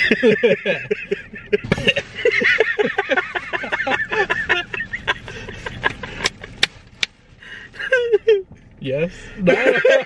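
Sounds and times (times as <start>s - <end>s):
young men laughing: 0.0s - 6.6s, 7.6s - 8.5s, 9.4s - 10.0s.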